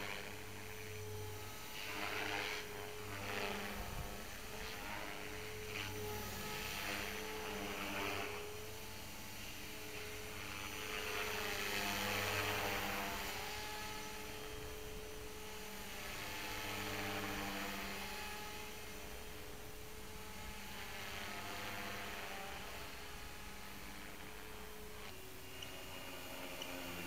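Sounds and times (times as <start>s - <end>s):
rc helicopter rotor hum: 0.0s - 27.0s.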